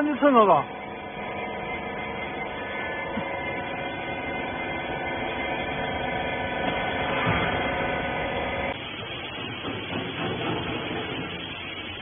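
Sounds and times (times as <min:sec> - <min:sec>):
baler machine hum: 0:00.0 - 0:12.0.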